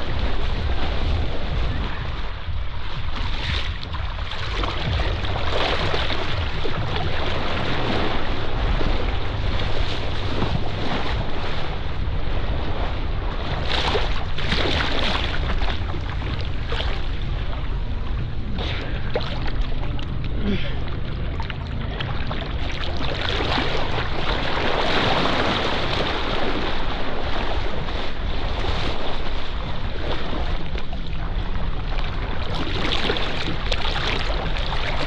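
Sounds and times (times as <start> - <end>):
water splashing and rushing: 0.0 - 35.0
wind buffeting microphone: 0.0 - 35.0.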